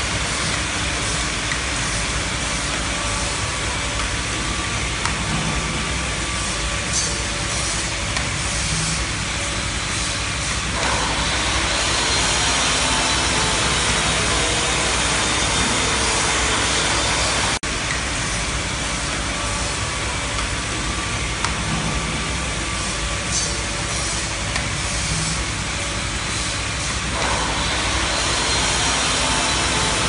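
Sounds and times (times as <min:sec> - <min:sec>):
packaging line machinery running: 0:00.0 - 0:30.0.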